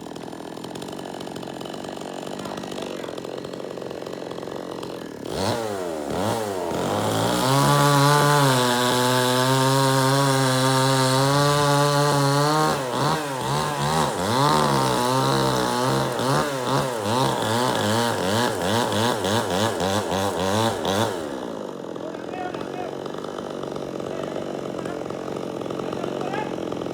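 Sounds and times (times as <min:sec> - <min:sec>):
chainsaw engine revving: 0:00.0 - 0:26.9.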